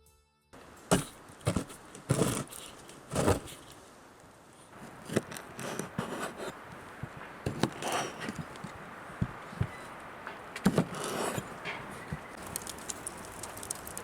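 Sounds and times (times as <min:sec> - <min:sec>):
objects scraping and knocking: 0:00.8 - 0:03.8, 0:04.7 - 0:14.0.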